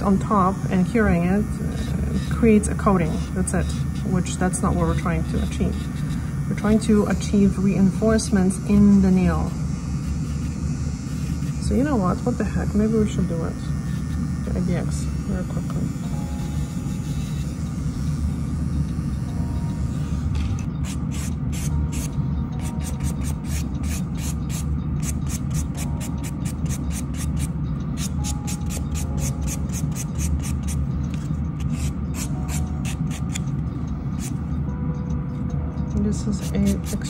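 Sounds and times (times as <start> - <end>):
steady low hum: 0.0 - 37.0
nail buffer rubbing fingernail: 0.3 - 18.1, 19.8 - 33.5, 34.1 - 34.5, 36.4 - 37.0.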